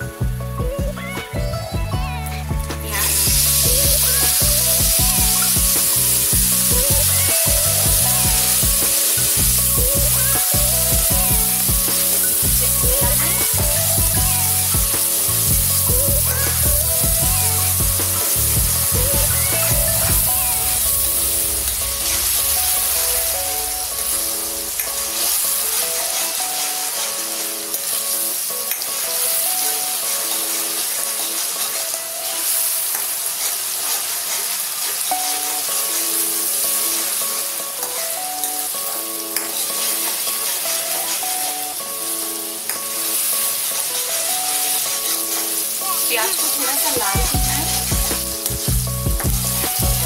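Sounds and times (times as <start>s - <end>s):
onion sizzling in hot oil: 2.2s - 50.0s
spatula stirring in pan: 2.9s - 38.7s, 39.4s - 50.0s.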